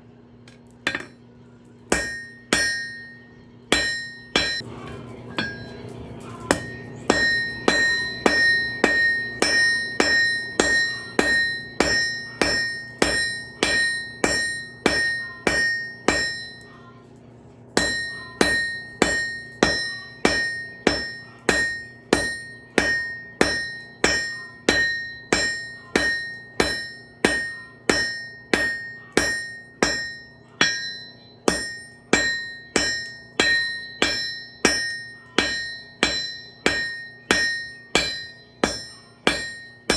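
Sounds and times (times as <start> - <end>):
hammer striking anvil: 0.5 - 1.2, 1.9 - 4.6, 5.4 - 5.8, 6.4 - 16.7, 17.8 - 39.9.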